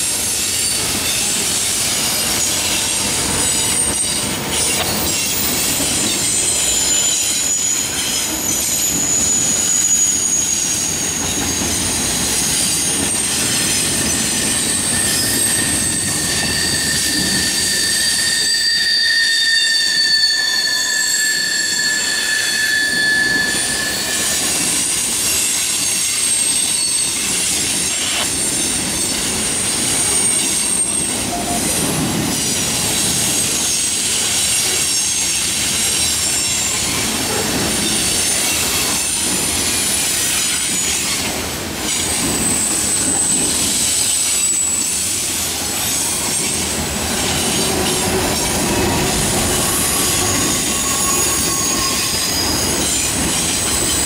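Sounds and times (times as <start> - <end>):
wheel flanges squealing: 0.1 - 31.8, 32.4 - 54.0.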